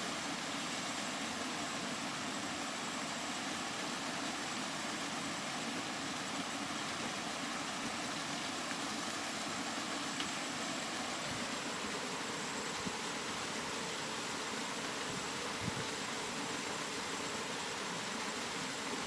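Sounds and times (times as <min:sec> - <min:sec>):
steady rainfall: 0:00.0 - 0:19.0.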